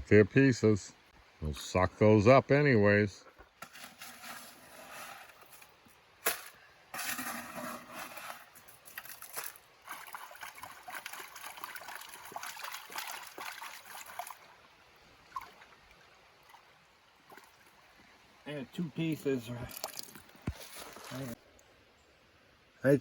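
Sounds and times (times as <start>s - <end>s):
water sloshing and trickling: 3.2s - 21.8s.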